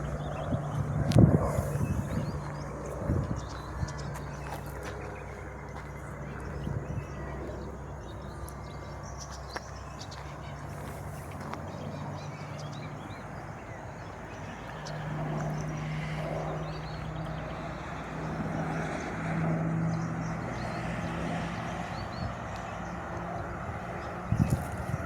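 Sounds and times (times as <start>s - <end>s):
distant engine drone: 0.0s - 25.0s
small birds chirping: 0.0s - 25.0s.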